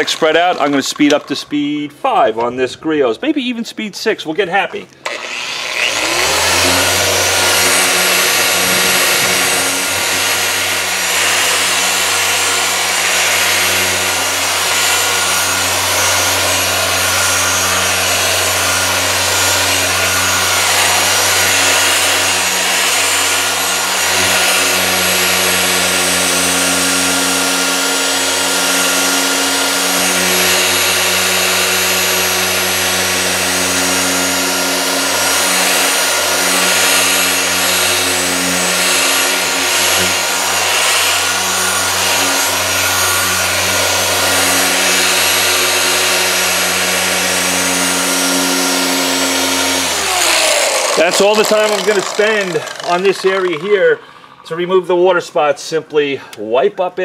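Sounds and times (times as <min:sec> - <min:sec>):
orbital polisher motor hum: 0:05.0 - 0:54.5.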